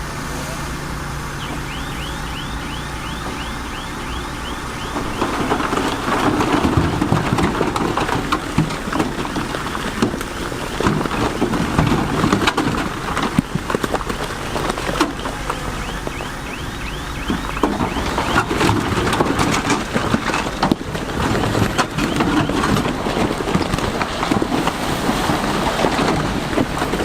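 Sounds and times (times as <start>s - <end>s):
diesel machinery running: 0.0s - 27.0s
stones tumbling and grinding: 1.4s - 27.0s.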